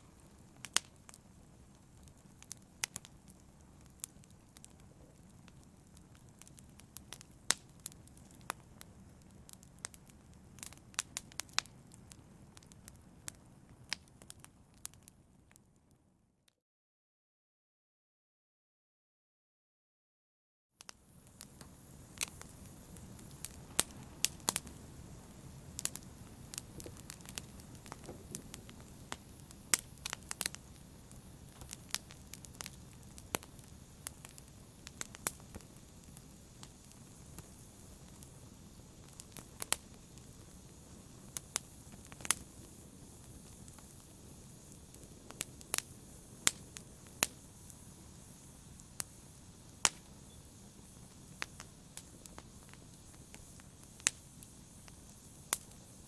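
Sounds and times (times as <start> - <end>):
low rumble of flames: 0.0 - 15.6, 20.9 - 56.0
fire crackling and popping: 0.0 - 16.0, 20.8 - 56.0.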